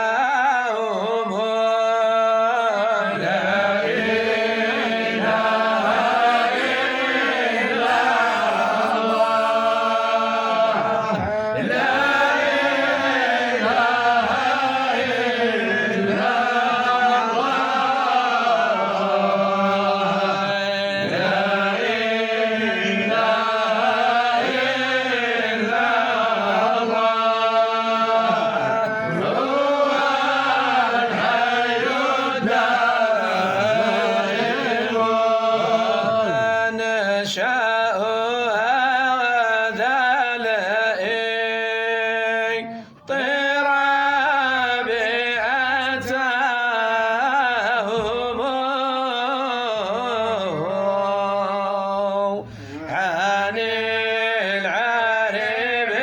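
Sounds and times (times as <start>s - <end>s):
man chanting melodically: 0.0s - 56.0s.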